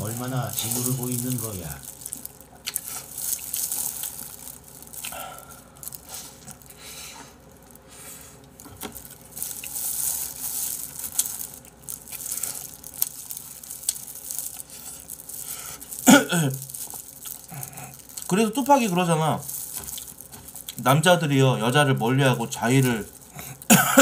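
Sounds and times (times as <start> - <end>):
wet chewing and sucking: 0.0 - 18.4, 19.3 - 20.9.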